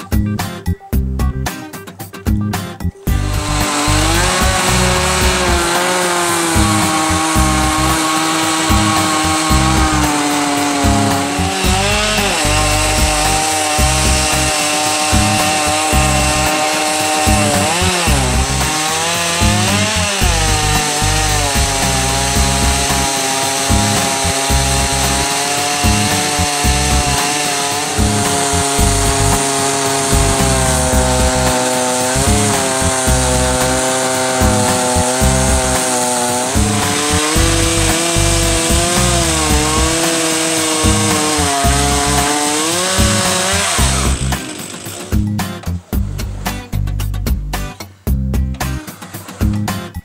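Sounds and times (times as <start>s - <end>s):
chainsaw cutting through log: 3.1s - 46.8s, 48.6s - 50.0s.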